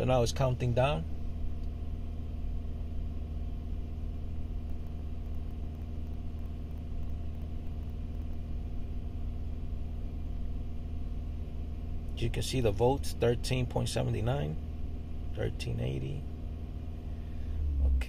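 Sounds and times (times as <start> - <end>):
car engine running steadily: 0.0 - 18.0.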